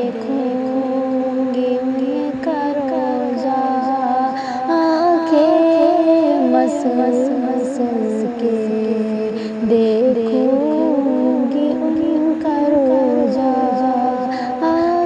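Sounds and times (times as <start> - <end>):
wordless vocal melody: 0.0 - 15.0.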